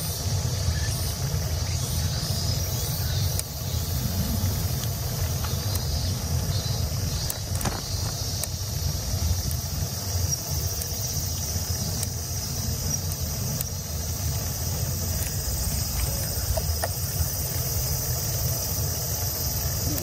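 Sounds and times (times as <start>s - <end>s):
steady high hiss: 0.0s - 20.0s
wind rumbling on microphone: 0.2s - 20.0s.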